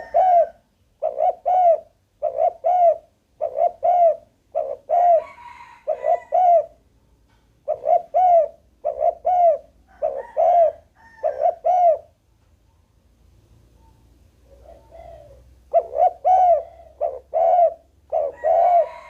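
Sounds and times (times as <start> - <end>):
dove cooing: 0.0 - 6.8, 7.6 - 12.2, 13.8 - 19.0.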